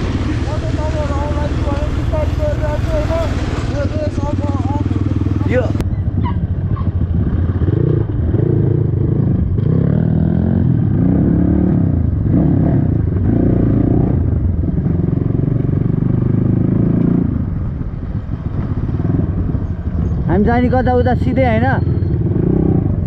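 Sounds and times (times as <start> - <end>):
dirt bike engine revving: 0.0 - 17.3, 18.8 - 23.0.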